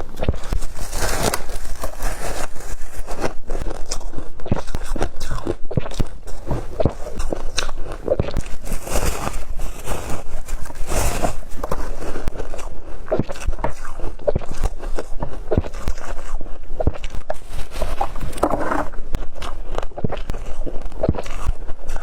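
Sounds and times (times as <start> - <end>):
person chewing crunchy ice: 0.0 - 22.0.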